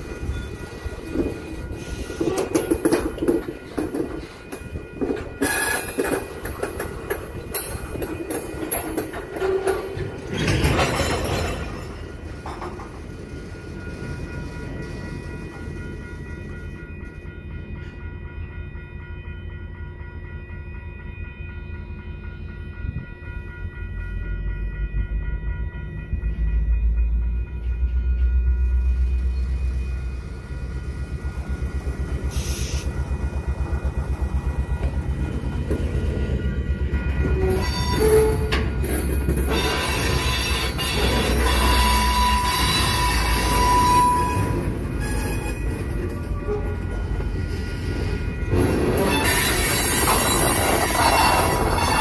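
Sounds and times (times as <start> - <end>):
freight train rumbling and rattling: 0.0 - 52.0.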